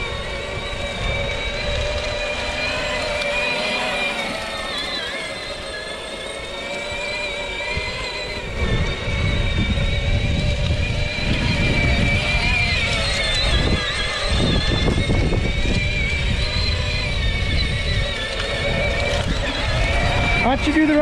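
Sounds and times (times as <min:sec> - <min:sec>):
electric toy tractor motor whine: 0:00.0 - 0:21.0.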